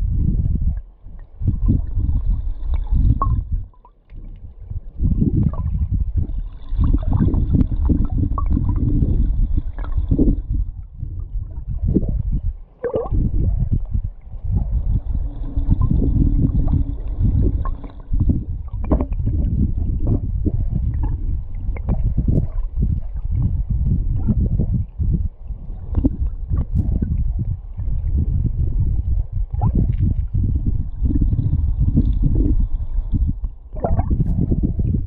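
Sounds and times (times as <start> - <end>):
underwater river rumble: 0.0 - 35.0
water gurgling: 0.0 - 35.0.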